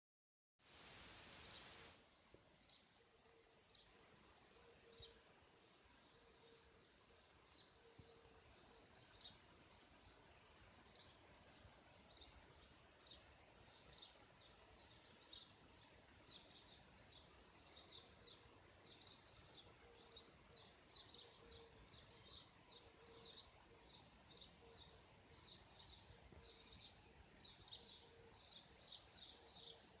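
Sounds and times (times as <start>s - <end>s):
steady hiss: 0.6s - 30.0s
faint high bird chirps: 2.6s - 10.2s, 10.9s - 30.0s.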